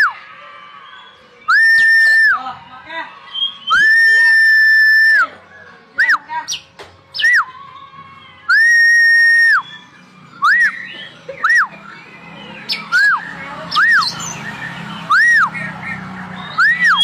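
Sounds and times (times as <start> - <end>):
bird singing whistled notes: 0.7 - 2.4, 3.3 - 7.8, 8.4 - 17.0.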